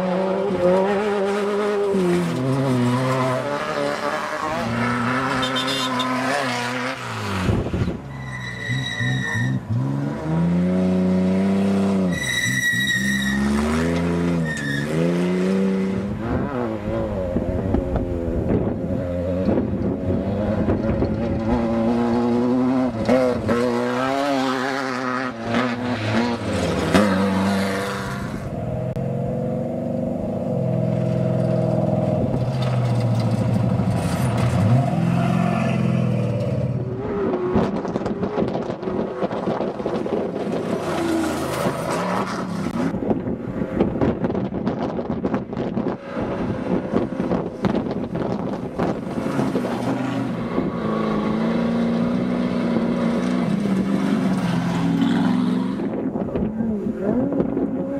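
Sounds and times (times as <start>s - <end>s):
race vehicle engines revving: 0.0s - 57.9s.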